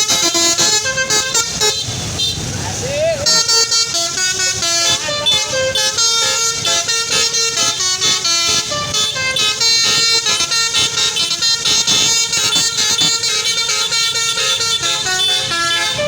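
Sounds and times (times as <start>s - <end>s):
melodic air horn on a bus: 0.0s - 2.5s, 3.1s - 16.0s.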